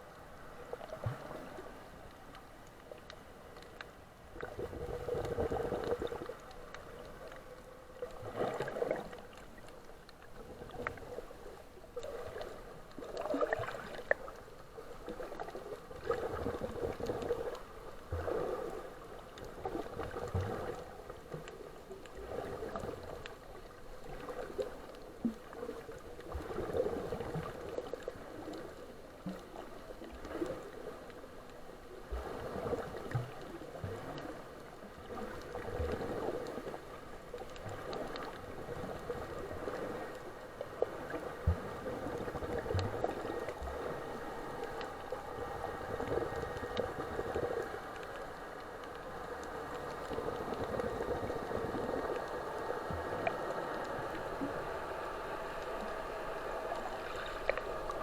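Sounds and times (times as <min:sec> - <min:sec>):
sea water sloshing and gurgling: 0:00.0 - 0:58.0.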